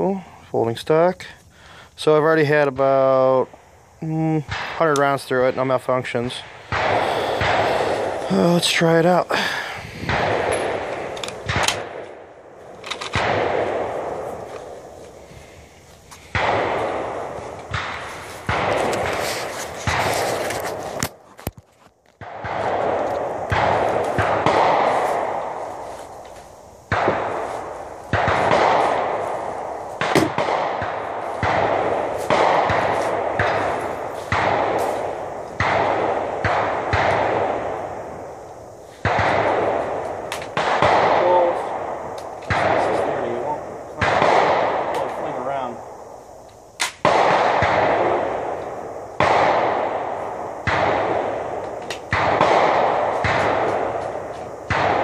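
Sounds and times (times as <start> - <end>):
rifle gunshots with echo: 4.4 - 15.6, 16.2 - 21.2, 22.2 - 25.8, 26.9 - 38.4, 39.0 - 46.1, 46.8 - 55.0.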